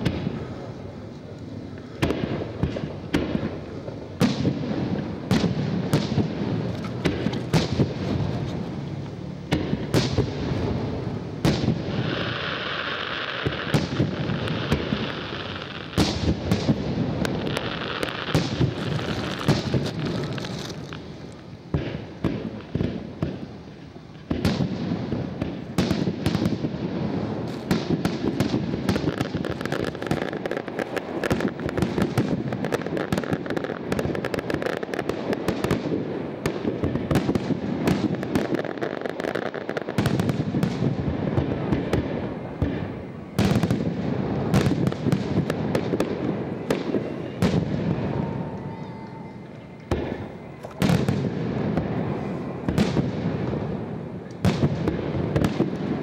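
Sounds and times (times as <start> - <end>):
fireworks bursting and crackling: 0.0 - 56.0
sharp fireworks bangs: 0.0 - 56.0.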